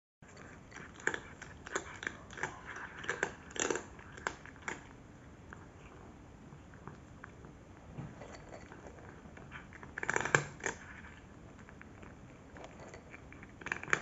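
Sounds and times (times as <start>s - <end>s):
cat crunching dry kibble: 0.2s - 5.8s, 8.2s - 14.0s.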